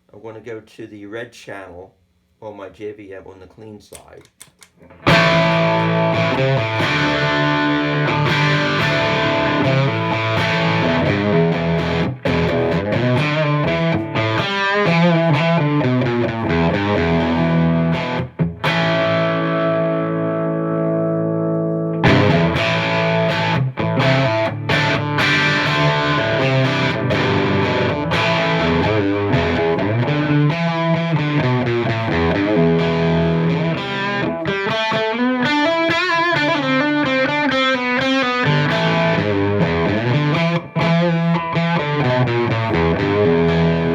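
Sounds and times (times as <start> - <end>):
overdriven electric guitar: 4.8 - 43.9.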